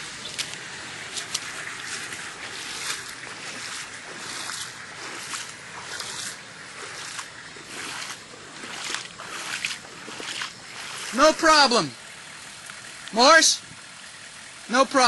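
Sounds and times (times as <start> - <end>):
water rushing: 0.0 - 15.0
water splashing: 0.0 - 15.0.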